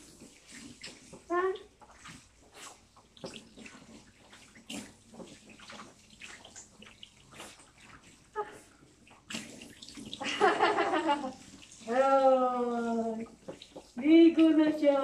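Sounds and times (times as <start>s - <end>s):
water splashing from hose sprayer: 0.0s - 15.0s.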